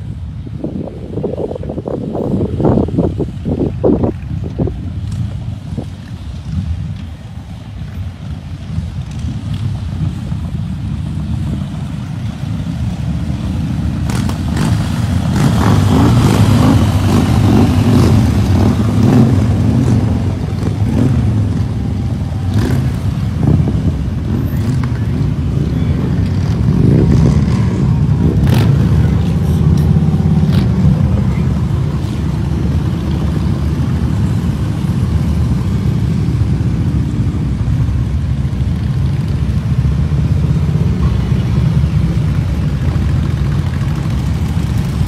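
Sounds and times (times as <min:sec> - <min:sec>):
motorcycles rumbling past: 0:04.9 - 0:45.0.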